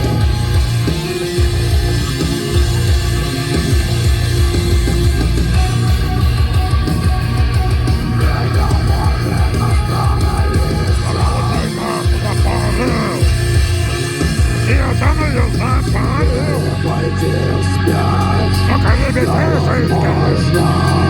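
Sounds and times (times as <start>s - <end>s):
bass and drums: 0.0s - 21.0s
electric guitar: 0.0s - 21.0s
live rock band playing: 0.0s - 21.0s.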